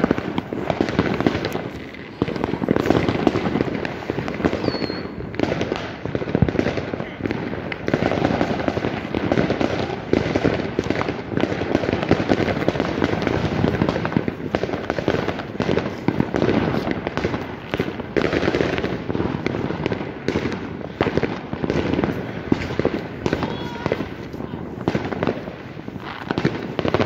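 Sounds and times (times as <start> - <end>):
fireworks and firecrackers crackling: 0.0 - 27.0.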